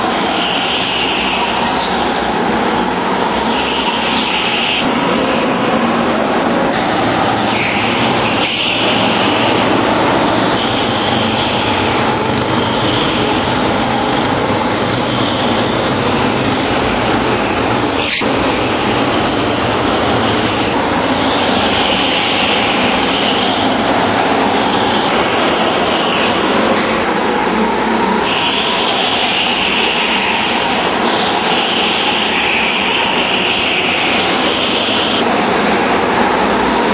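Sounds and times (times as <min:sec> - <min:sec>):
go-kart engines running: 0:00.0 - 0:36.9.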